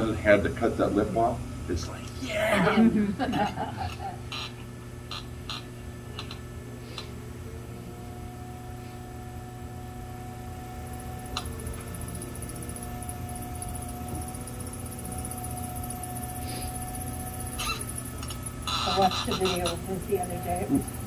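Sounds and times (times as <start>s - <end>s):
potter's wheel motor hum and whine: 0.0s - 21.0s.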